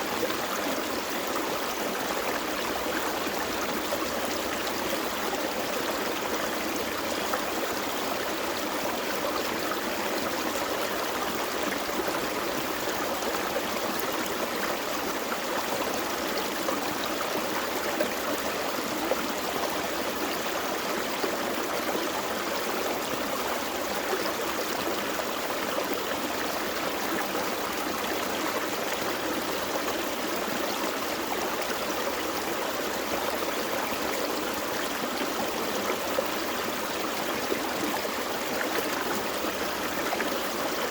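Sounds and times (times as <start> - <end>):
creek flowing over rocks: 0.0 - 40.9.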